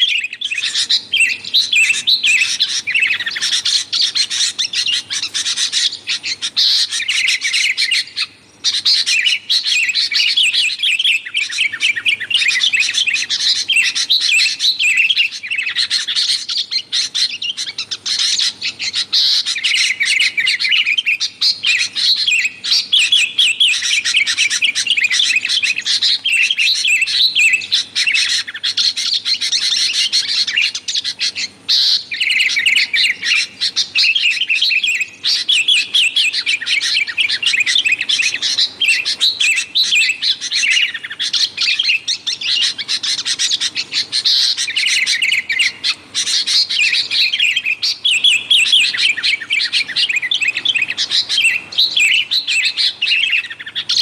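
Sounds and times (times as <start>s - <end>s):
birds chattering: 0.0s - 54.0s.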